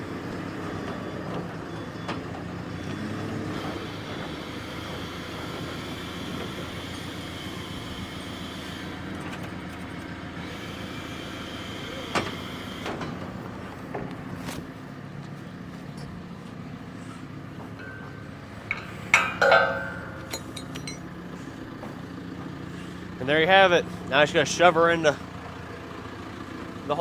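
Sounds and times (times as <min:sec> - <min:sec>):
heavy truck engine running: 0:00.0 - 0:27.0.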